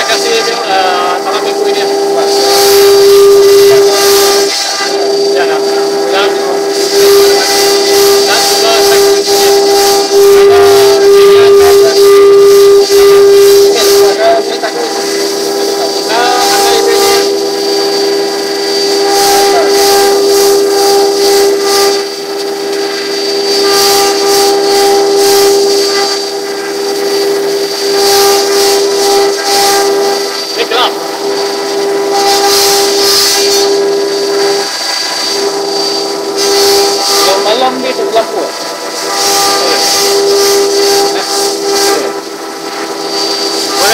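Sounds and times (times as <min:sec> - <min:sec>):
bit cutting board hiss: 0:00.0 - 0:43.9
router spindle whine: 0:00.0 - 0:43.9.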